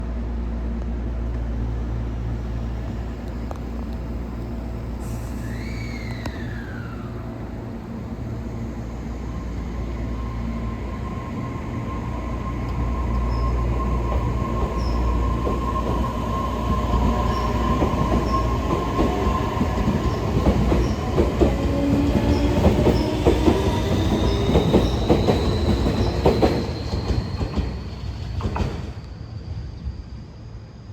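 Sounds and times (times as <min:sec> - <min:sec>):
train rumble: 0:00.0 - 0:30.9
train motor whine rising: 0:01.2 - 0:29.2.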